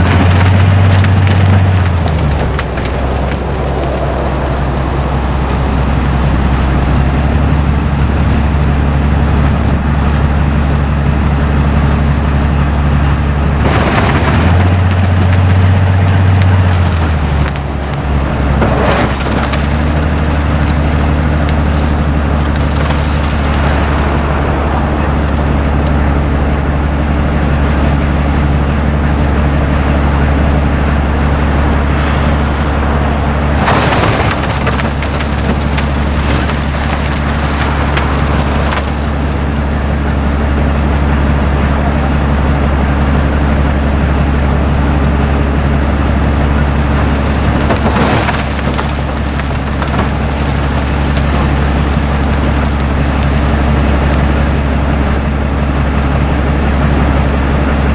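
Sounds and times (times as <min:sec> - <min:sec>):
low engine drone: 0:00.0 - 0:57.9.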